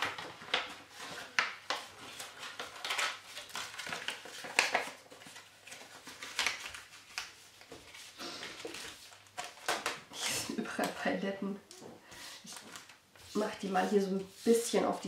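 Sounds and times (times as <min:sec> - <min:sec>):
paper crinkling rustles: 0:00.0 - 0:15.0.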